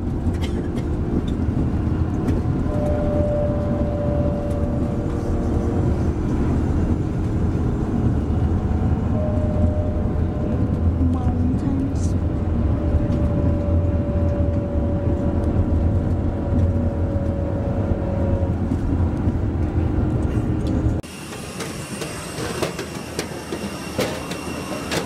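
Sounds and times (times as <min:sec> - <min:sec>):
coach engine and road noise: 0:00.0 - 0:25.0.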